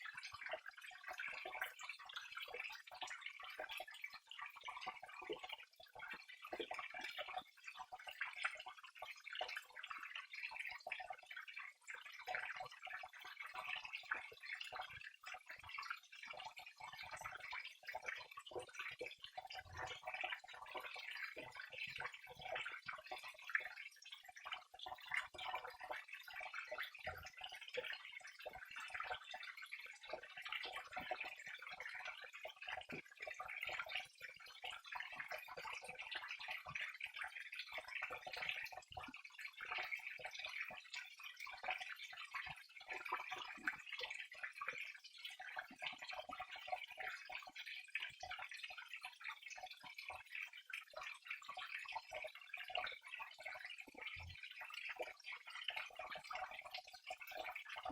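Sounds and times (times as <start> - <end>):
water trickling and splashing: 0.0 - 57.9.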